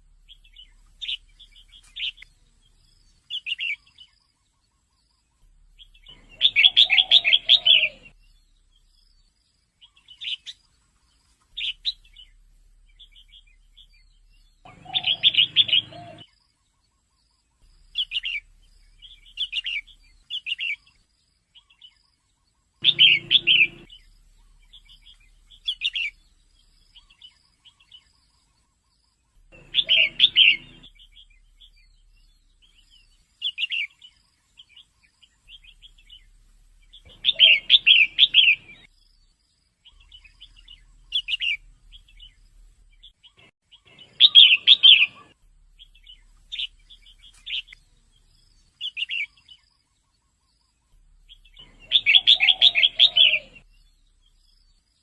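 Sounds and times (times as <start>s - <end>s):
bird chirping and calling: 0.3s - 9.2s, 9.8s - 16.4s, 17.8s - 21.0s, 22.8s - 54.8s.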